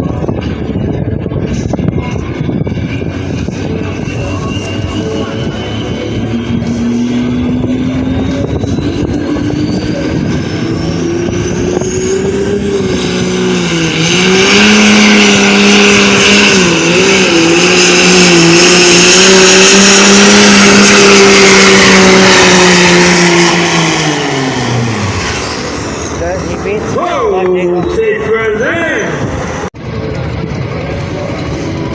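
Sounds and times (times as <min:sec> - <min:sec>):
high whine: 0:00.0 - 0:31.9
tractor engine at full throttle: 0:00.0 - 0:31.9.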